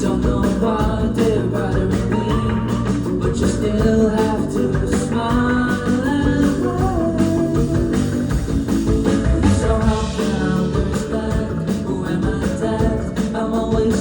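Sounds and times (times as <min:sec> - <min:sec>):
drums: 0:00.0 - 0:14.0
guitar: 0:00.0 - 0:14.0
person singing lead vocal: 0:00.0 - 0:14.0
rock band playing: 0:00.0 - 0:14.0.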